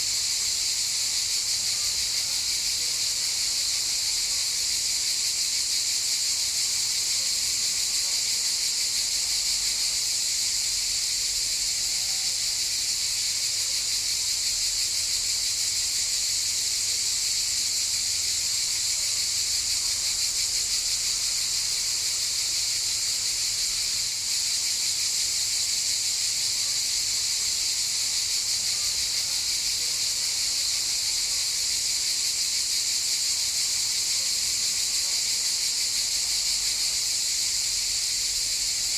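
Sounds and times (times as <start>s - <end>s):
cicadas buzzing: 0.0s - 7.6s, 8.5s - 38.9s.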